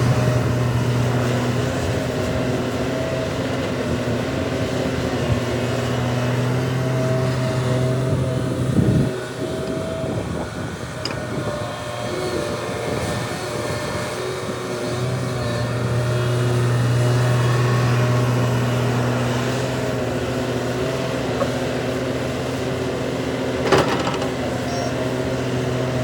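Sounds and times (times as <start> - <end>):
heavy diesel machinery engine drone: 0.0 - 26.0.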